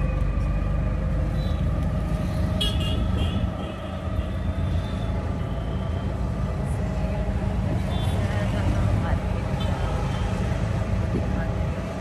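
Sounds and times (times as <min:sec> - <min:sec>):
auto-rickshaw engine droning: 0:00.0 - 0:12.0
road noise: 0:00.0 - 0:12.0.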